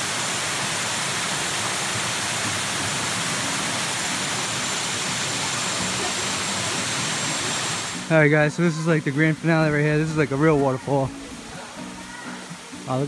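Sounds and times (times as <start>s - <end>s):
waterfall pouring over rocks: 0.0s - 13.0s.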